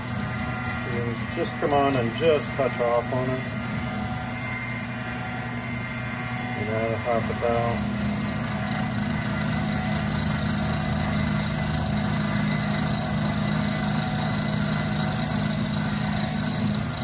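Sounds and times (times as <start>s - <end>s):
high whine: 0.0s - 17.0s
milling machine motor hum: 0.0s - 17.0s.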